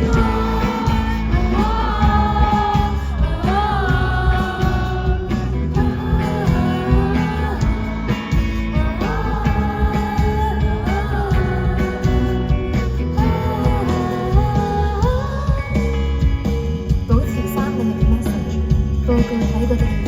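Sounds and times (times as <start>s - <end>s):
indie pop song: 0.0s - 20.0s.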